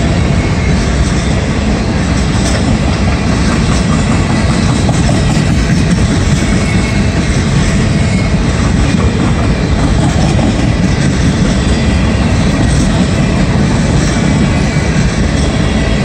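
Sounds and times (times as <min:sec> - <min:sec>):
freight train wheels rumbling on rail: 0:00.0 - 0:16.0.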